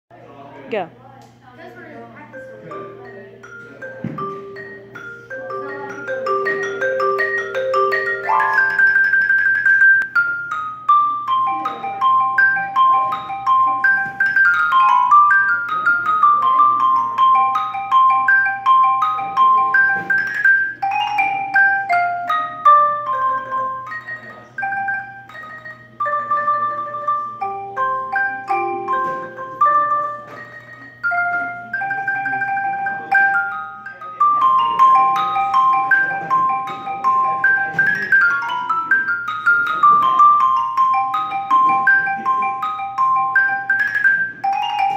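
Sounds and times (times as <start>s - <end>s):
mallet keyboard melody: 1.6s - 44.9s.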